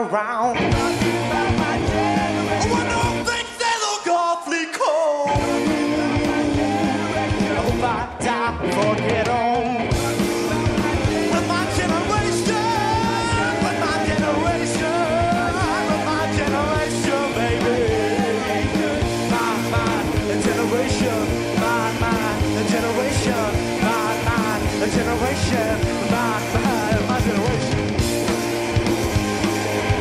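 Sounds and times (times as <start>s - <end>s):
punk rock band playing: 0.1s - 4.2s, 5.2s - 30.0s
wavering lead guitar line: 0.2s - 3.6s, 5.3s - 30.0s.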